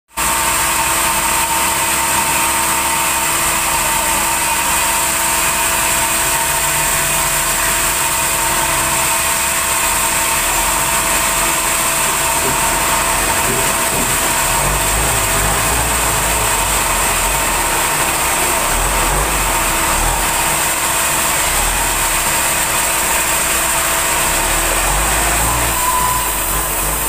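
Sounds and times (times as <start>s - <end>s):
sawmill running with whine: 0.1s - 27.0s.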